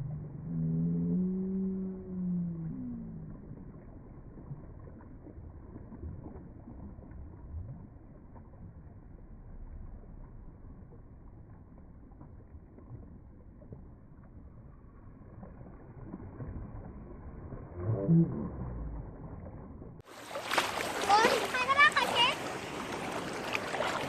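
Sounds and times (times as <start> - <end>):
sea rumble: 0.0 - 24.0
wind: 0.0 - 24.0.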